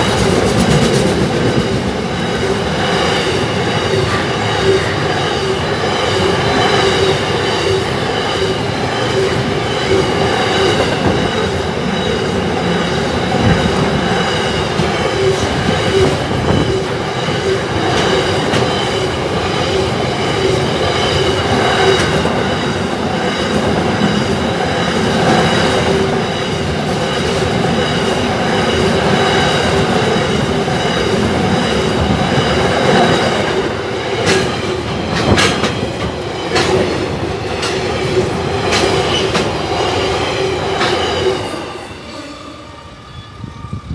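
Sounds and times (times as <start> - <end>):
steel wheels clattering on rails: 0.0 - 41.7
freight train rolling past: 0.0 - 43.9.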